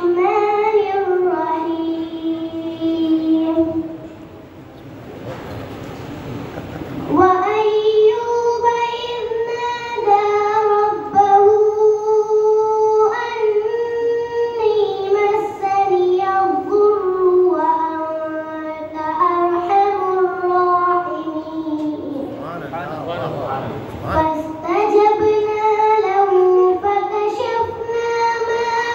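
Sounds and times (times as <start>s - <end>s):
boy chanting recitation: 0.0s - 4.4s, 7.0s - 28.9s.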